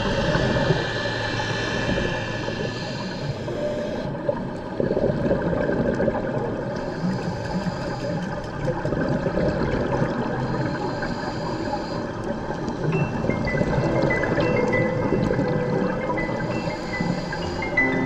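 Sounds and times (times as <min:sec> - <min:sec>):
water bubbling and rushing: 0:00.0 - 0:18.0.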